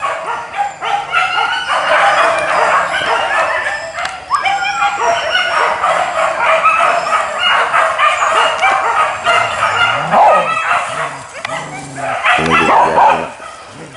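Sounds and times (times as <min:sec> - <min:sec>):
dogs yelping and barking: 0:00.0 - 0:13.9.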